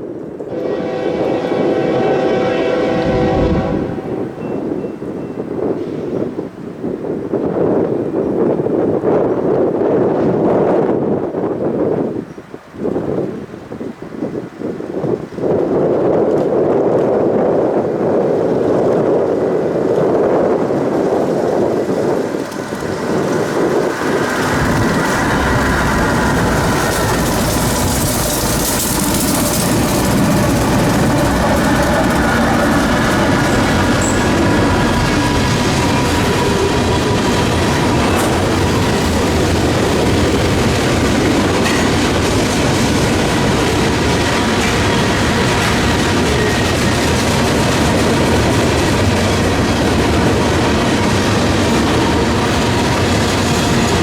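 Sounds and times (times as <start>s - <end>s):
freight train wheels on rails: 0.0s - 54.0s
wind buffeting microphone: 0.0s - 54.0s.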